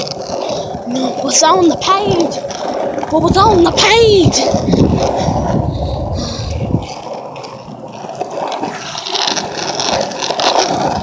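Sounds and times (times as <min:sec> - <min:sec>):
skateboard wheels rolling on pavement: 0:00.0 - 0:11.0.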